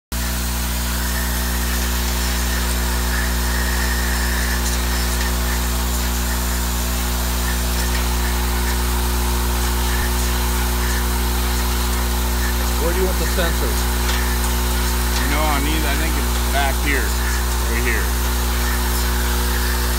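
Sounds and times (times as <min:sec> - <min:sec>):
electrical hum: 0:00.2 - 0:19.9.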